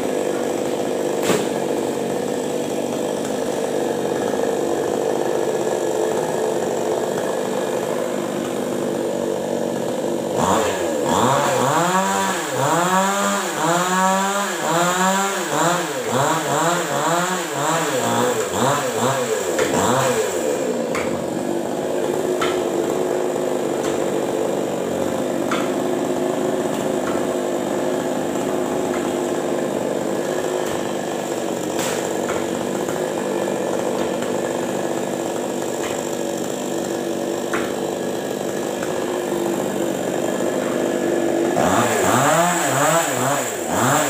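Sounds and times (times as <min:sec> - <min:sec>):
chainsaw running and revving: 0:00.0 - 0:44.0.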